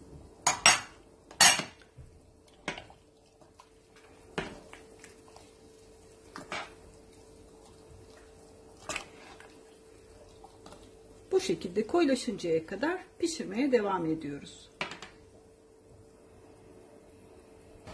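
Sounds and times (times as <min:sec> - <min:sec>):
faint steady hum: 0:00.0 - 0:17.9.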